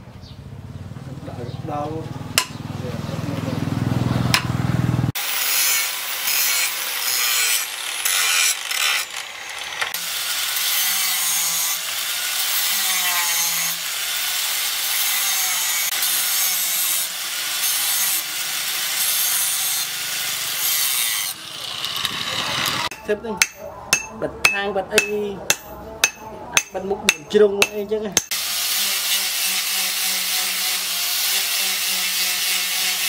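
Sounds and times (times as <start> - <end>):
angle grinder grinding metal: 2.3 - 33.0.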